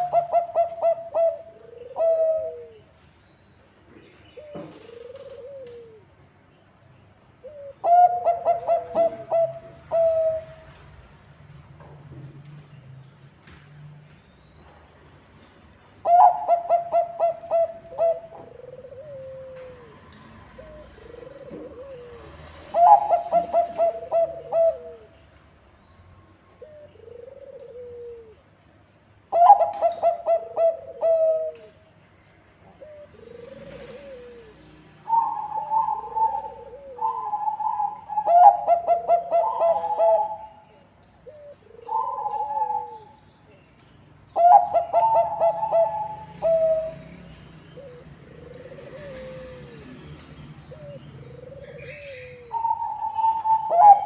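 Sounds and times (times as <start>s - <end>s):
doves cooing: 0.0s - 3.0s, 4.4s - 6.2s, 7.4s - 10.9s, 16.0s - 25.4s, 26.5s - 28.6s, 29.3s - 31.9s, 32.6s - 54.0s.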